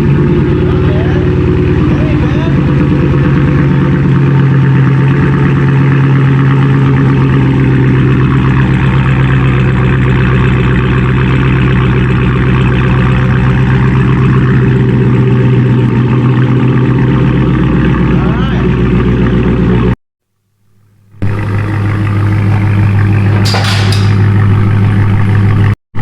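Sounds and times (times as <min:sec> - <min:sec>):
car engine idling loudly: 0:00.0 - 0:20.0, 0:21.0 - 0:25.8.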